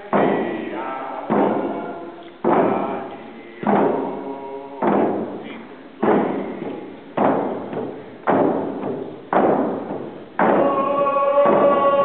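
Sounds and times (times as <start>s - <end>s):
frame drums beating: 0.0s - 12.0s.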